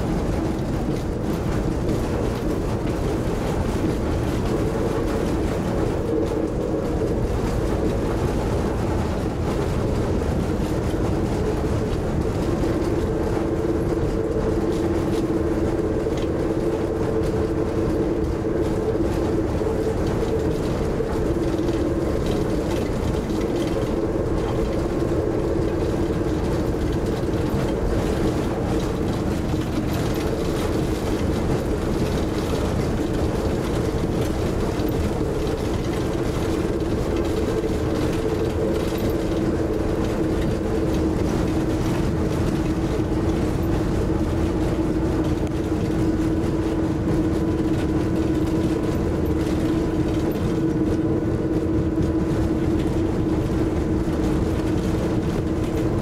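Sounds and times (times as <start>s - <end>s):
railbus engine drone from cabin: 0.0s - 56.0s.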